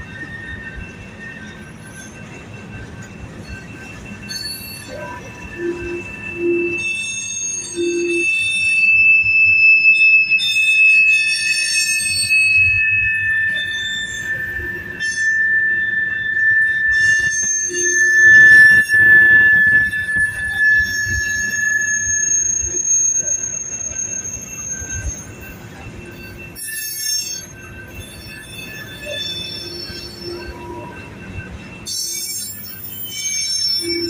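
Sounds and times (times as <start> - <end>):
rumble of train cars: 0.0 - 34.0
train wheels squealing: 0.0 - 34.0.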